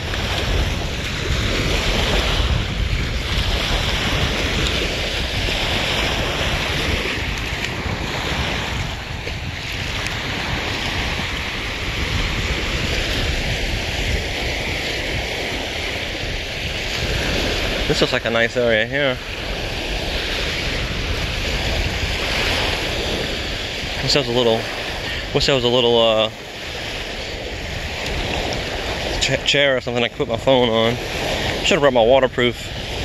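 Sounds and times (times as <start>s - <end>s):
small waves on sandy shore: 0.0s - 33.0s
wind buffeting microphone: 0.0s - 33.0s.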